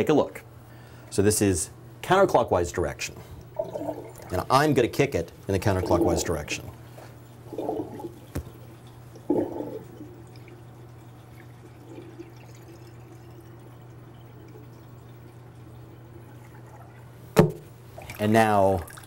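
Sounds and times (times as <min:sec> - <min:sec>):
steady low hum: 0:00.0 - 0:19.0
water sloshing in sink: 0:03.3 - 0:19.0
water draining and trickling: 0:03.4 - 0:19.0.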